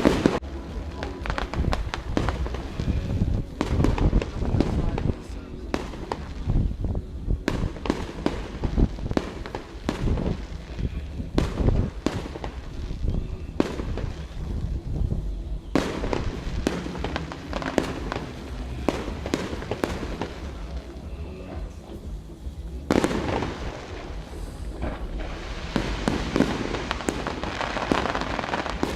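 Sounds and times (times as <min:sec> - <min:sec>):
fireworks bangs and crackles: 0:00.0 - 0:28.9
low rumble of distant bursts: 0:00.0 - 0:28.9.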